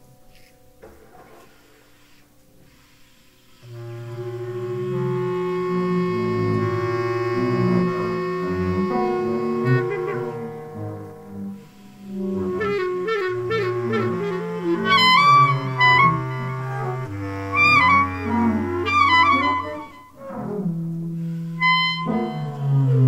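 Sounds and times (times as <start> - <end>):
alto saxophone: 1.9 - 23.0
clarinet: 3.6 - 23.0
held low notes: 3.6 - 23.0.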